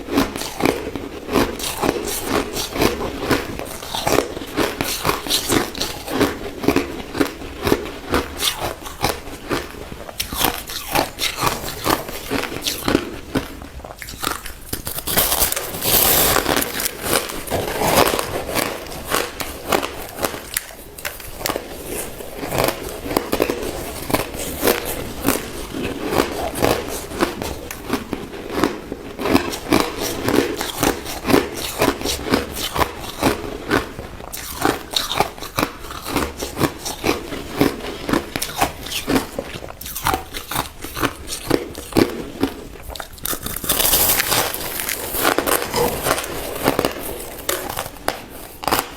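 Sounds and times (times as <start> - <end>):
chewing crushed ice: 0.0 - 48.9.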